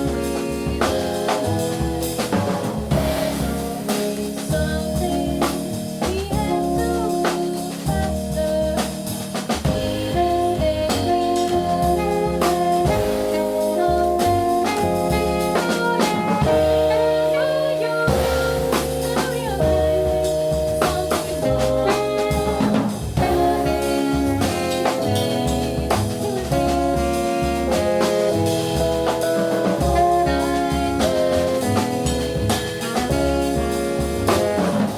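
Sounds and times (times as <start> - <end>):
alto saxophone melody: 0.0 - 34.9
drum and cymbal strokes: 0.0 - 34.9
keyboard: 0.0 - 34.9
walking double bass: 0.0 - 34.9.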